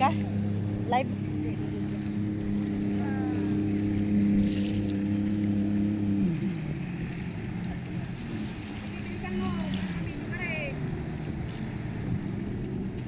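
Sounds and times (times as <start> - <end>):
water noise: 0.0 - 13.0
watercraft engine running: 0.0 - 13.0
wind: 0.0 - 13.0.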